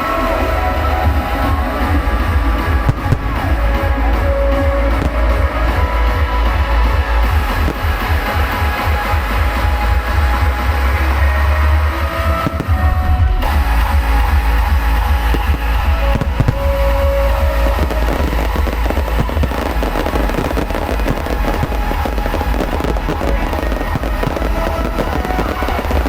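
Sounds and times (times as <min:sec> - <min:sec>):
fireworks bangs and crackles: 0:00.0 - 0:26.0
music with heavy bass beat: 0:00.0 - 0:26.0.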